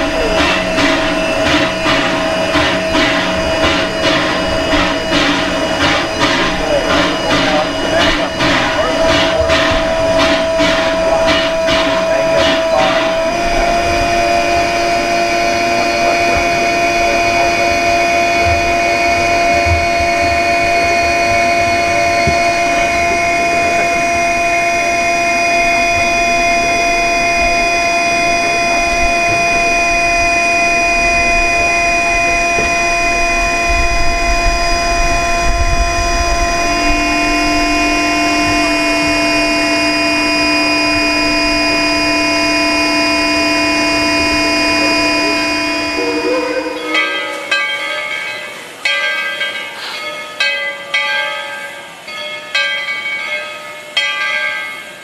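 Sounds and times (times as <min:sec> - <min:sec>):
steam locomotive whine: 0:00.0 - 0:55.0.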